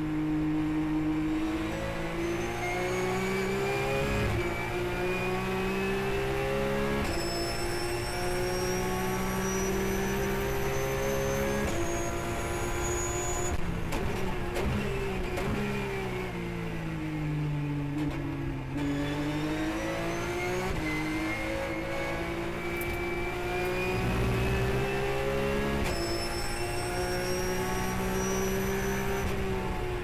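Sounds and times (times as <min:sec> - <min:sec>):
race car engine at full throttle: 0:00.0 - 0:30.0.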